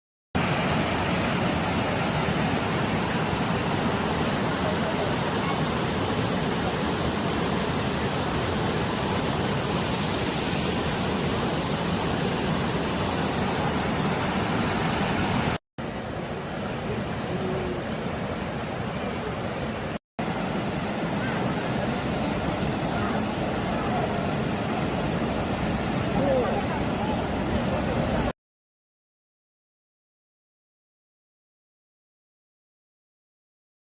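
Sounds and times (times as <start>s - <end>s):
stream flowing: 0.4s - 28.3s.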